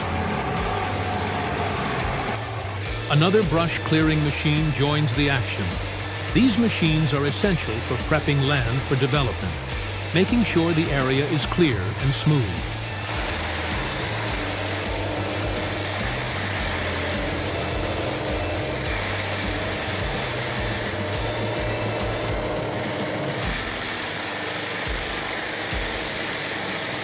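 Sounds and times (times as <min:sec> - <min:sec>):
brush-clearing machine running: 0:00.0 - 0:27.0.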